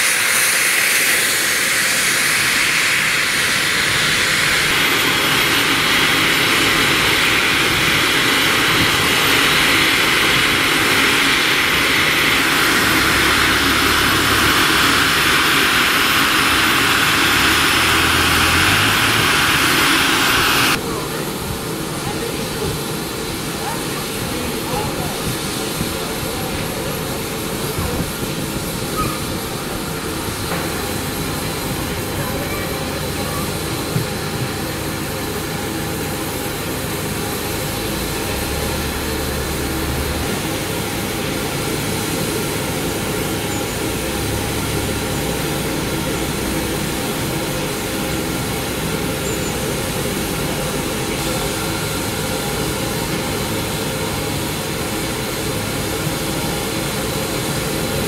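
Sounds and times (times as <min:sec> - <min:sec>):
rushing water and escaping steam: 0:00.0 - 0:58.0.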